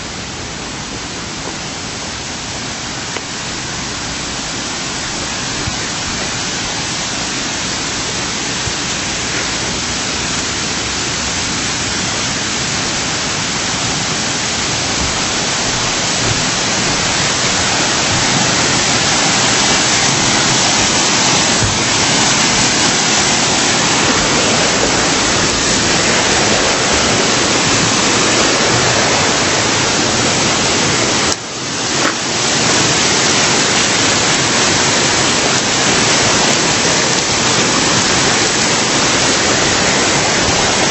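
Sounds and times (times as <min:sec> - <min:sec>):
waterfall pouring: 0:00.0 - 0:40.9.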